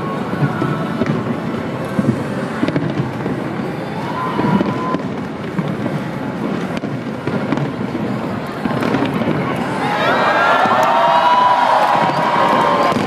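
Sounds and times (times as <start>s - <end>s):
fireworks bangs: 0.0s - 13.0s
murmur of large crowd: 0.0s - 13.0s.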